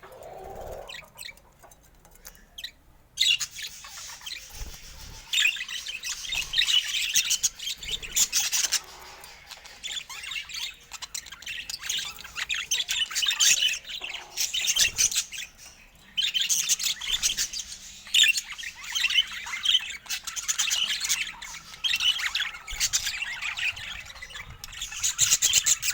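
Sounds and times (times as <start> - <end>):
budgerigars chattering: 2.5 - 25.9.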